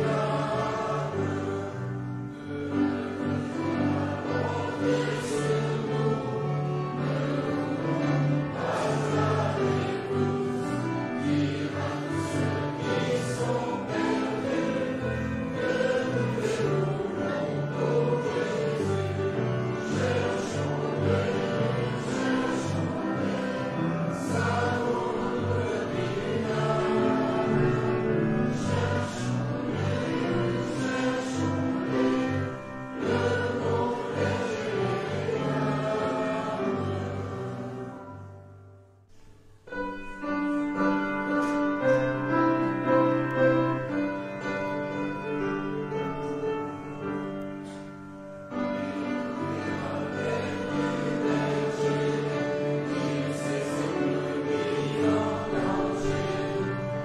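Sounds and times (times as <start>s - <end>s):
choir singing: 0.0s - 38.4s, 39.8s - 57.0s.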